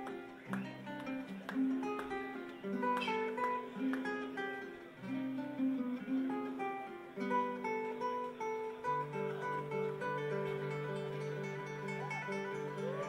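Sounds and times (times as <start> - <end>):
acoustic guitar plucked melody: 0.0 - 13.0.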